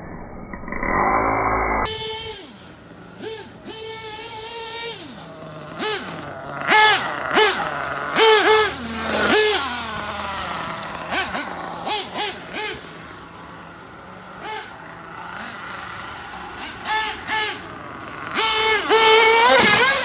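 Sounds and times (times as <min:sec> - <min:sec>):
rc car engine revving: 0:00.6 - 0:20.0.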